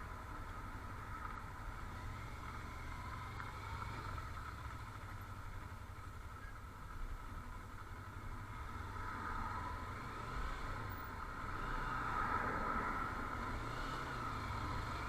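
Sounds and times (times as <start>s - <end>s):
motor vehicle rumble and hiss: 0.0s - 15.0s.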